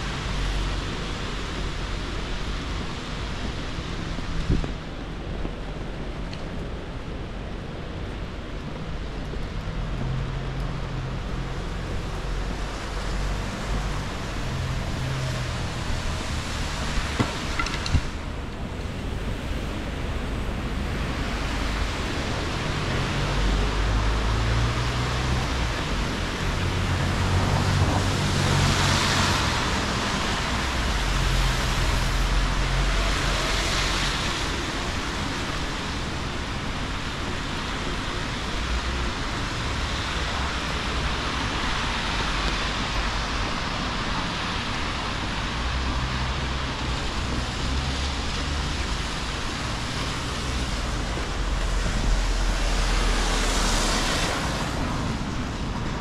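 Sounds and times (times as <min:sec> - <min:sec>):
rain: 0:00.0 - 0:56.0
vehicles passing with tyre hiss: 0:00.0 - 0:56.0.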